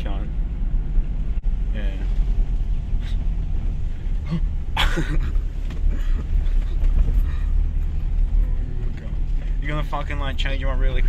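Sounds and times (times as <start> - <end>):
vehicle rumble on rough track: 0.0 - 11.0.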